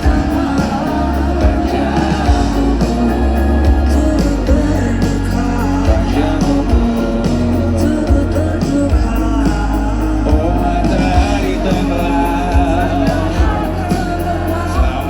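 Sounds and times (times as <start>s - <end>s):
drum hits: 0.0s - 15.0s
heavy bass line: 0.0s - 15.0s
live pop-rock band: 0.0s - 15.0s
people singing: 0.0s - 15.0s.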